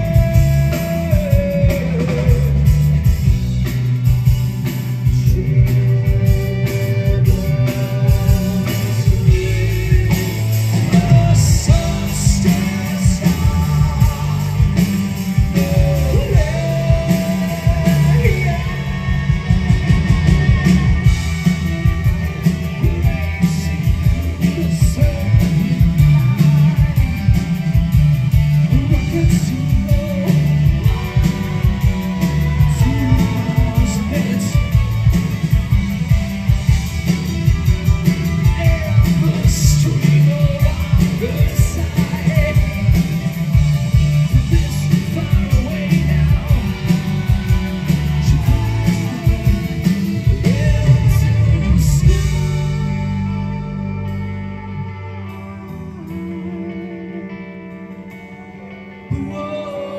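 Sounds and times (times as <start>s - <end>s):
lead vocal: 0.0s - 59.9s
live rock band playing: 0.0s - 59.9s.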